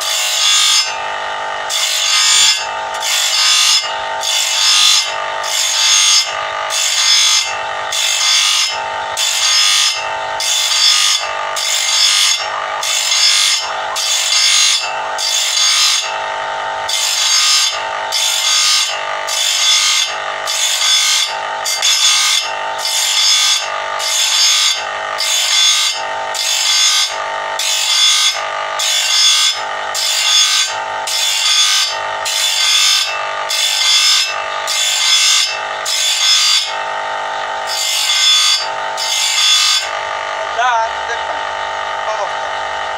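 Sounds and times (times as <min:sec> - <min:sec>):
grinder motor hum: 0:00.0 - 0:42.9
grinder wheel grinding saw blade: 0:00.0 - 0:42.9.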